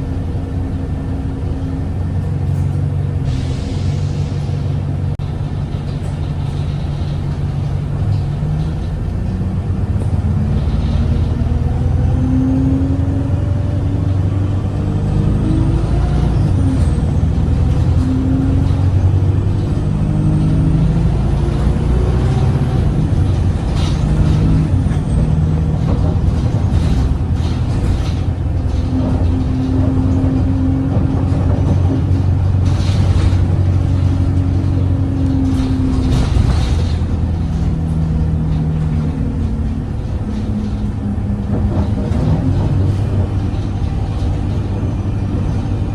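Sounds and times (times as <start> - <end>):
bus diesel engine: 0.0 - 45.9.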